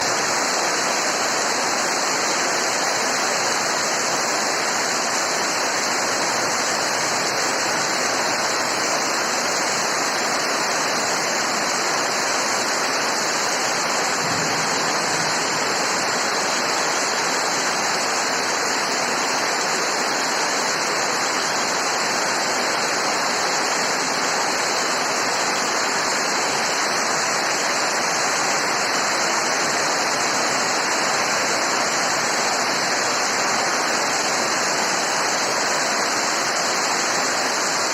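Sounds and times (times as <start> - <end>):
heavy rainfall: 0.0 - 37.9.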